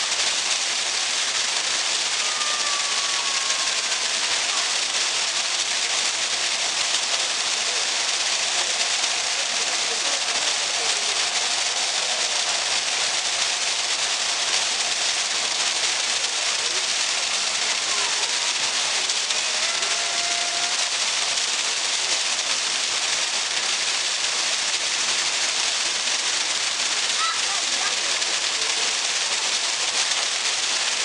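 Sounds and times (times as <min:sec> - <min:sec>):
water splashing into a pool: 0:00.0 - 0:31.0.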